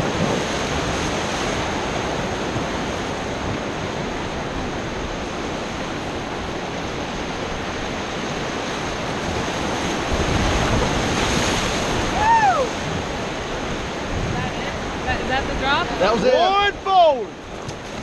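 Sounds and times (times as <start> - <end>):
whitewater rapids rushing: 0.0 - 18.0.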